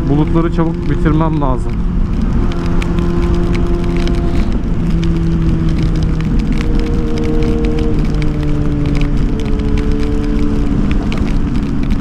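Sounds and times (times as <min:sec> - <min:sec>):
motorcycle engine running: 0:00.0 - 0:12.0
raindrop ticks: 0:00.0 - 0:12.0
wind: 0:00.0 - 0:12.0.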